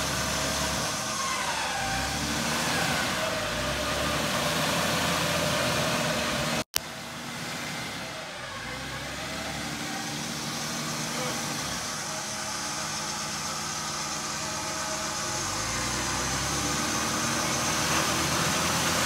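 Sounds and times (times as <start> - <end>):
electric winch whining: 0.0 - 19.0
engine running: 0.0 - 19.0.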